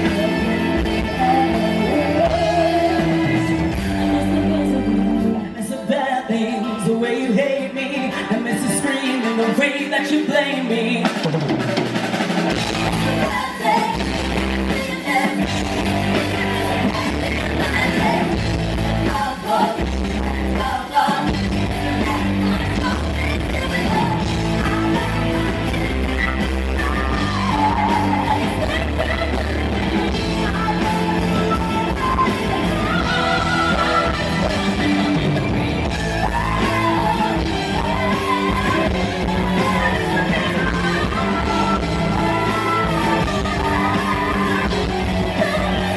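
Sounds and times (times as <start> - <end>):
steady bass line: 0.0 - 5.6, 12.5 - 45.9
rock music with singing: 0.0 - 45.9.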